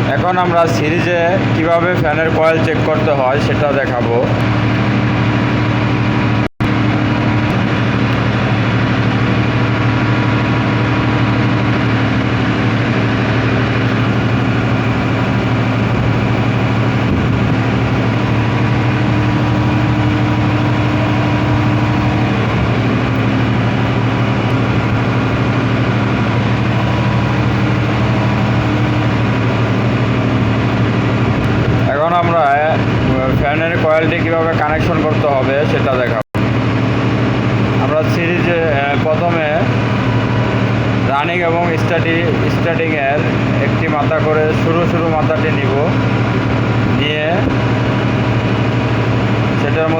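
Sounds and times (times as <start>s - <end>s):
machine hum with low drone: 0.0s - 49.9s.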